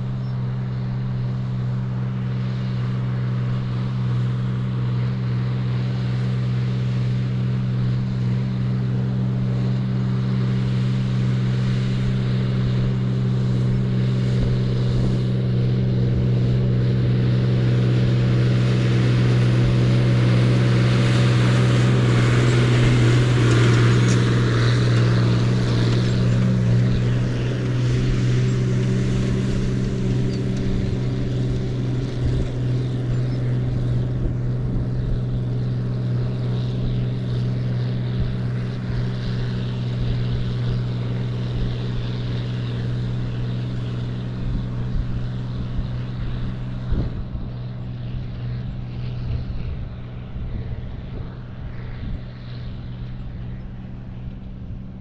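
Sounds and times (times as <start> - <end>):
tractor engine: 0.0 - 55.0.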